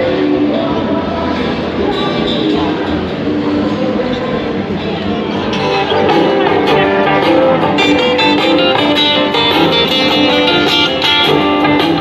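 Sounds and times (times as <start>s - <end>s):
plucked and strummed guitar: 0.0s - 12.0s.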